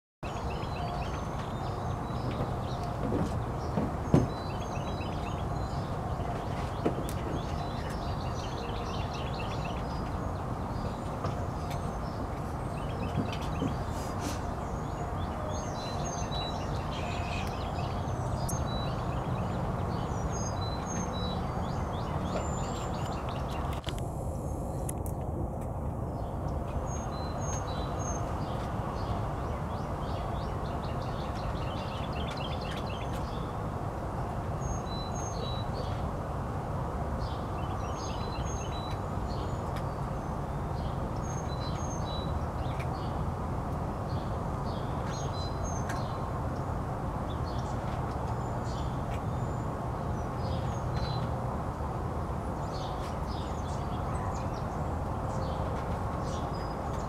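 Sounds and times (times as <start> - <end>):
small birds chirping: 0.2 - 25.0, 26.1 - 36.1, 44.1 - 51.4, 52.5 - 57.0.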